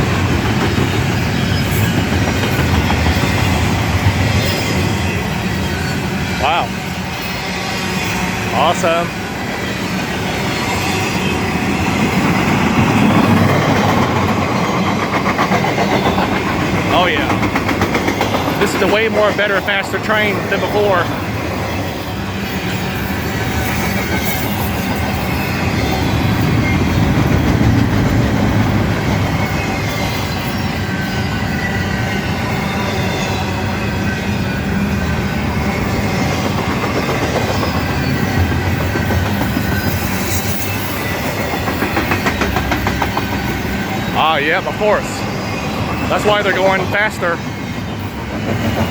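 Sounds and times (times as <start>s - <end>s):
clickety-clack over rail joints: 0.0s - 7.4s, 8.0s - 48.9s
freight train wheels on rails: 0.0s - 48.9s.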